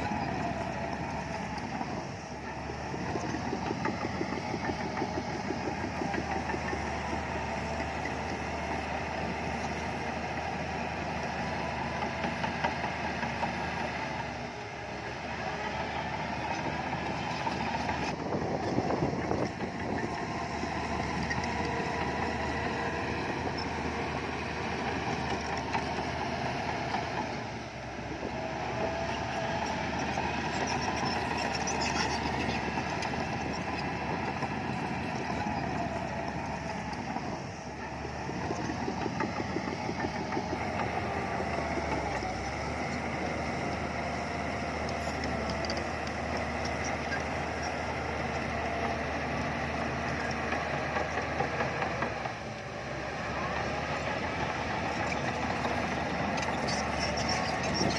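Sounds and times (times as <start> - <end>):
bulldozer diesel engine: 0.0 - 57.9.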